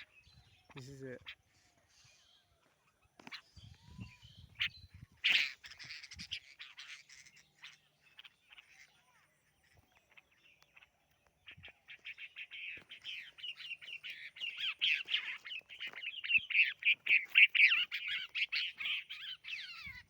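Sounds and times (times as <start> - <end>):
small birds chirping rapidly: 0.0 - 20.0.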